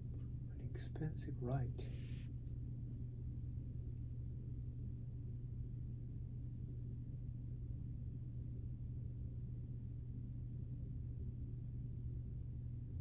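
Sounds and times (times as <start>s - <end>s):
faint low rumble: 0.0s - 13.0s
steady low hum: 0.0s - 13.0s.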